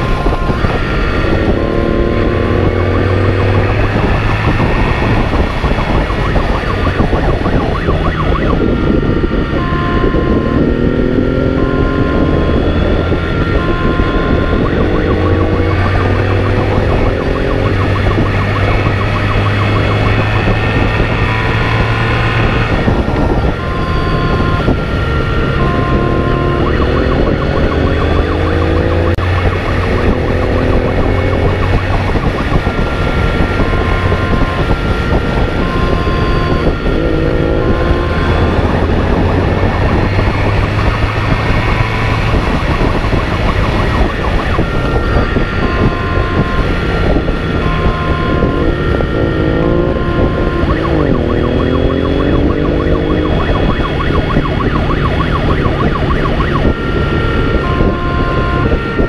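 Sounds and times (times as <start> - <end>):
beeping tone: 0.0 - 59.0
car engine accelerating hard: 0.0 - 59.0
road noise: 0.0 - 59.0.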